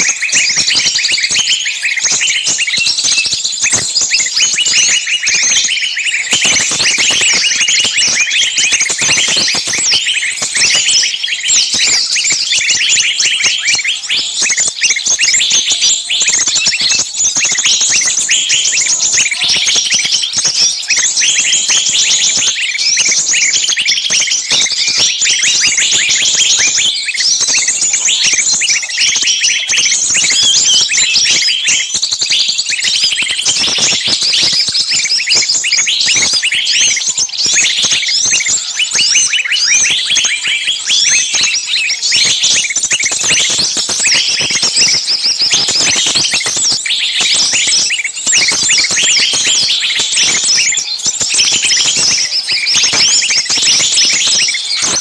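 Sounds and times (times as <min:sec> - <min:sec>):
many small birds chirping: 0:00.0 - 0:55.0.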